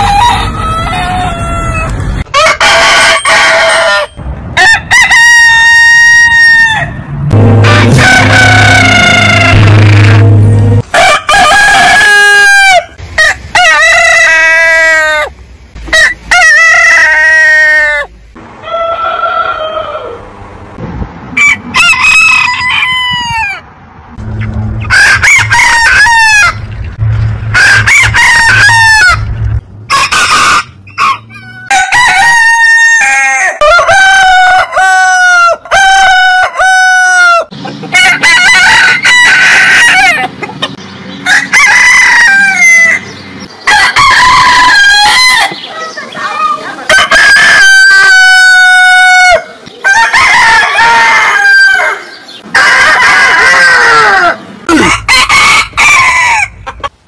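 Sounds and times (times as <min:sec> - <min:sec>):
roosters crowing: 0:00.0 - 0:57.0.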